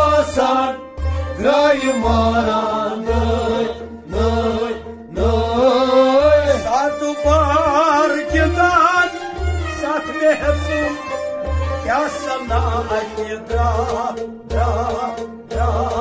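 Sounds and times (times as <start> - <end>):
man singing: 0.0 - 16.0.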